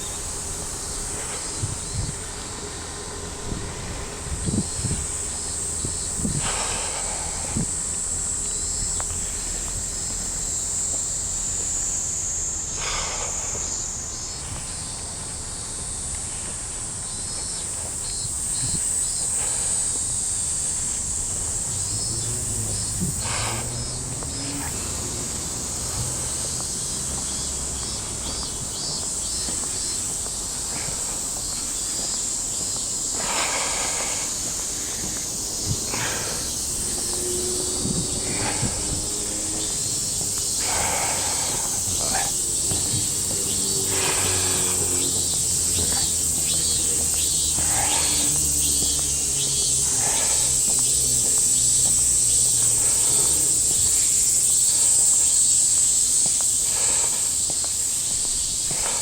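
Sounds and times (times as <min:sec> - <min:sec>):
cicadas droning: 0:00.0 - 0:59.0
faint ticking calls: 0:00.0 - 0:59.0.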